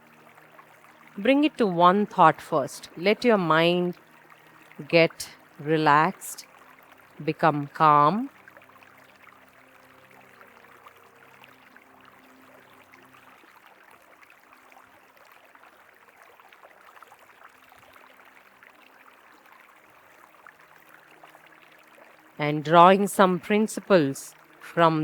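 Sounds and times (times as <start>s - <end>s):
river water flowing: 0.0s - 25.0s.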